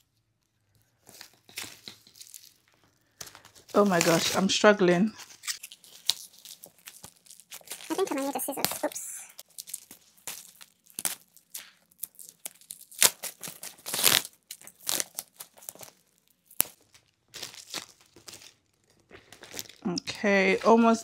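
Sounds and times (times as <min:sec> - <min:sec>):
plastic packaging tearing: 0:01.0 - 0:04.6, 0:05.2 - 0:21.0.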